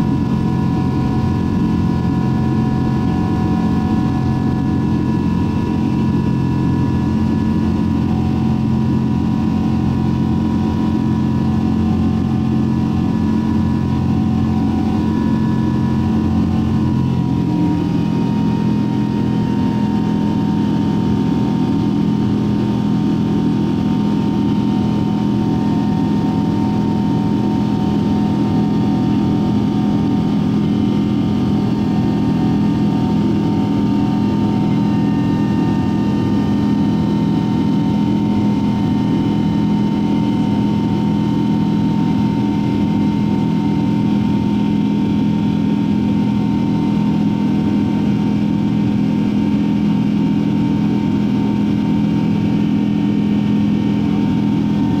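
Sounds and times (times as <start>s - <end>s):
engine whining tone: 0.0s - 55.0s
jet engine drone in cabin: 0.0s - 55.0s.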